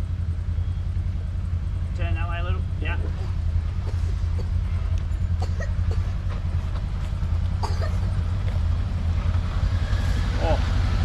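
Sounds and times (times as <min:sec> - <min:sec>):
buggy engine running: 0:00.0 - 0:11.0.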